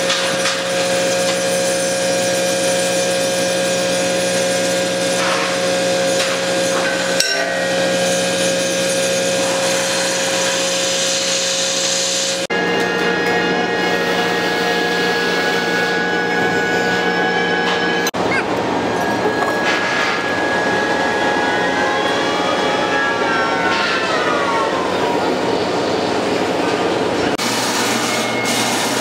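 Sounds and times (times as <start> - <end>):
construction machinery humming: 0.0 - 29.0.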